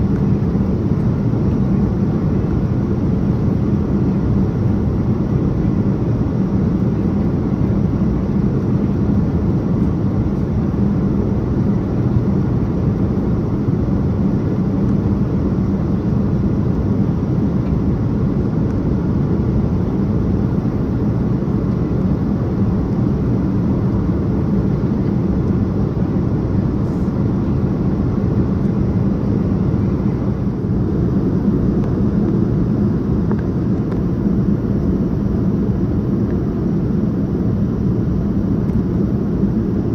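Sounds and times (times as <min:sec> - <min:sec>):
airliner cabin engine rush: 0:00.0 - 0:39.9.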